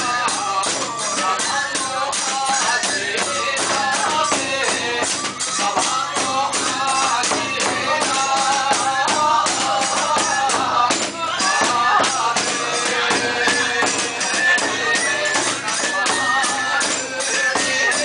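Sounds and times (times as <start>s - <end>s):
hand cymbals clashing: 0.0s - 18.0s
taiko drum: 0.0s - 18.0s.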